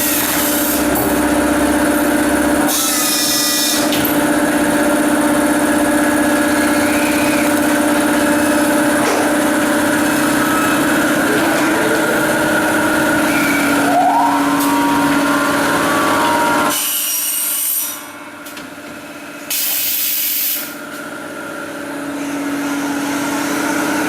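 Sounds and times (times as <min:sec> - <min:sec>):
machine motors whining: 0:00.0 - 0:19.7.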